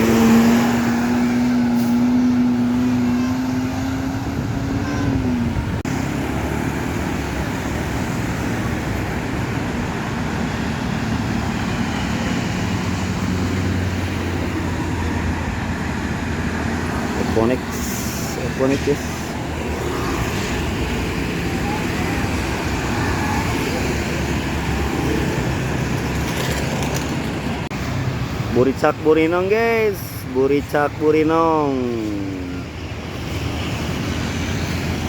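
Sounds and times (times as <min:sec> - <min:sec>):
passing vehicle drone: 0:00.0 - 0:29.1
road traffic noise: 0:00.0 - 0:35.0.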